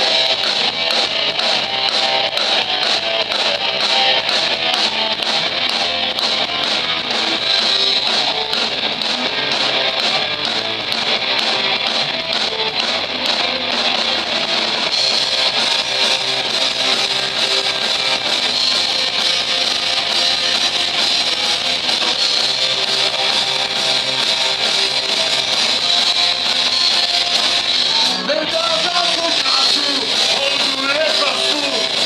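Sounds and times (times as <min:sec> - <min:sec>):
bass guitar: 0:00.0 - 0:32.0
drums: 0:00.0 - 0:32.0
electric guitar: 0:00.0 - 0:32.0.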